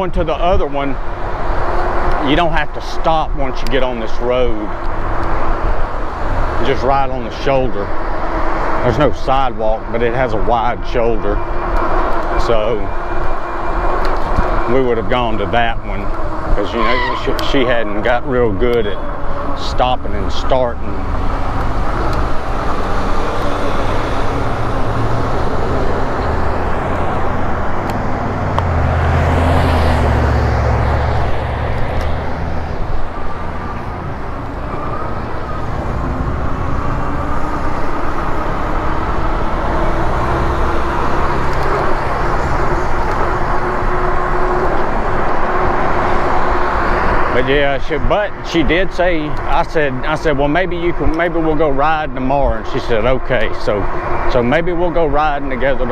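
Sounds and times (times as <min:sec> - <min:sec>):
road noise from bicycle: 0:00.0 - 0:55.9
vehicle passing: 0:03.7 - 0:55.9.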